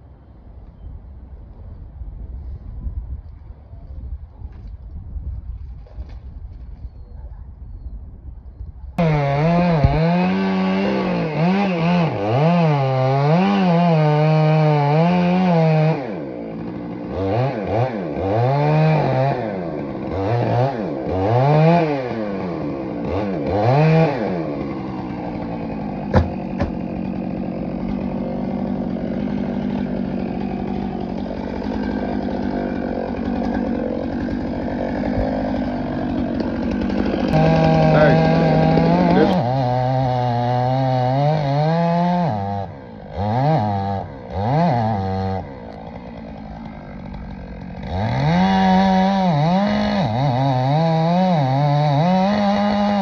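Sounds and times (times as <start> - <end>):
chainsaw cutting wood: 9.0 - 53.0.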